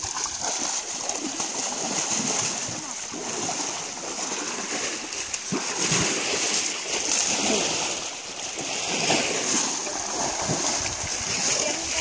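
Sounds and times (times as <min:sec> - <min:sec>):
elephant splashing in water: 0:00.0 - 0:12.0.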